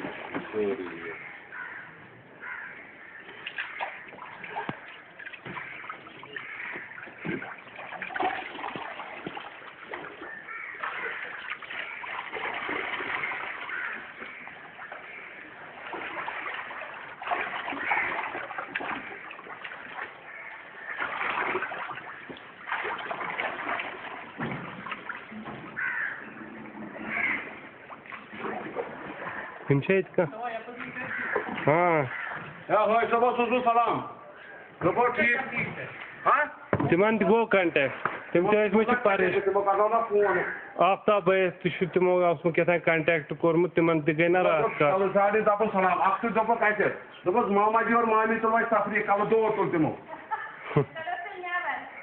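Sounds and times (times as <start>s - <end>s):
floodwater splashing and sloshing: 0.0s - 52.0s.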